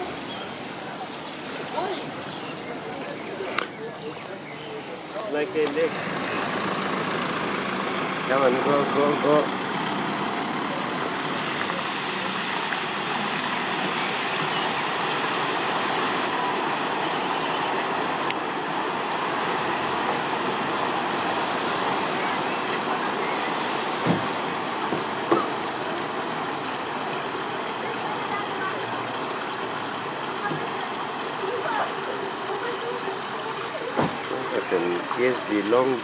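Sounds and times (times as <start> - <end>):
heavy rain and floodwater rushing: 0.0 - 36.0.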